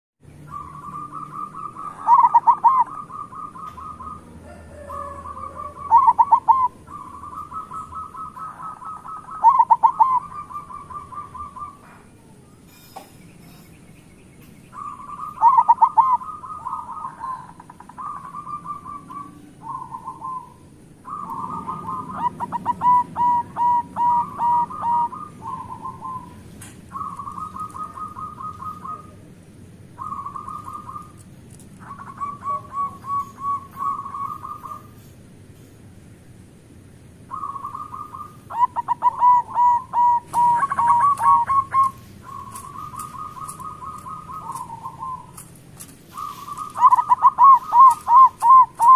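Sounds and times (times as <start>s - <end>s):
dove cooing: 0.5s - 12.9s, 14.7s - 35.1s, 37.2s - 48.9s.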